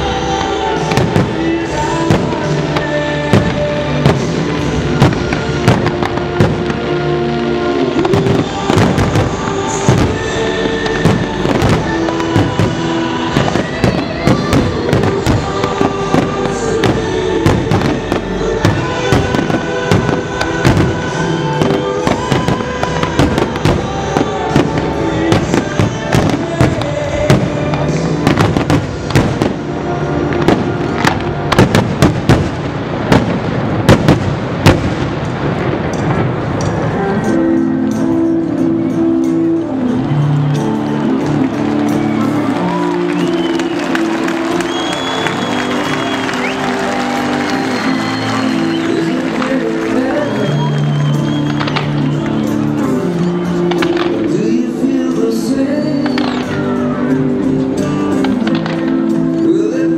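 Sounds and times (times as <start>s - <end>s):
fireworks bursting and crackling: 0.0s - 59.9s
music with long held notes: 0.0s - 59.9s.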